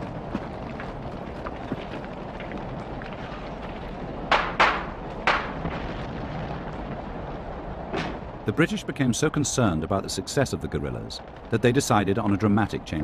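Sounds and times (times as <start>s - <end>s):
street ambience: 0.0s - 13.0s.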